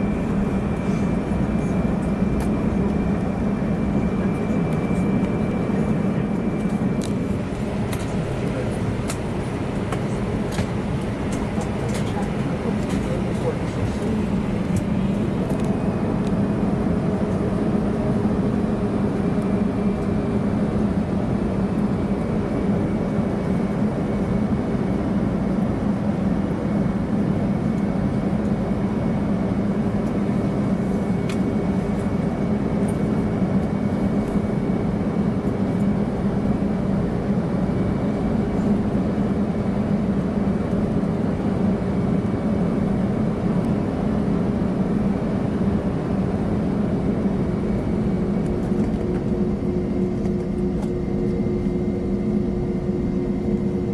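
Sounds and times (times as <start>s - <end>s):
jet engines humming: 0.0s - 53.9s.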